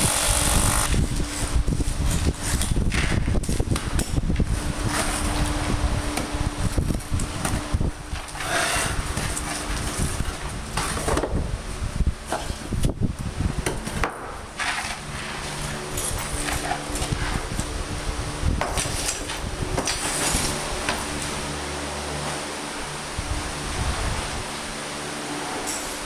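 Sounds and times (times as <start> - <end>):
mechanical noise with low hum: 0.0 - 26.0.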